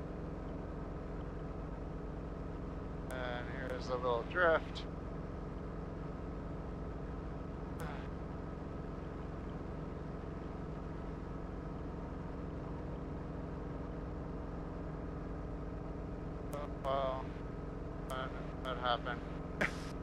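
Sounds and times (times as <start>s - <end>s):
helicopter engine and rotors droning: 0.0s - 20.0s.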